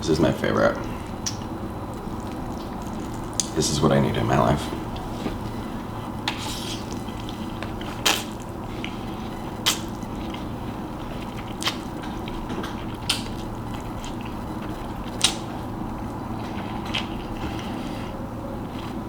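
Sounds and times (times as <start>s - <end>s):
steady low hum: 0.0s - 19.0s
person chewing: 1.1s - 3.6s, 4.7s - 18.1s.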